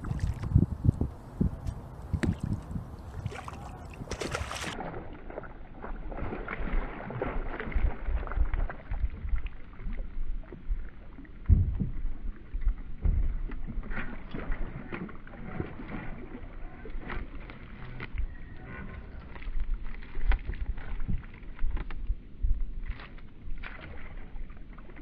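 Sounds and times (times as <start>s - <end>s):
fish thrashing in water: 0.0s - 0.6s, 2.1s - 25.0s
water splashing against kayak: 0.0s - 25.0s.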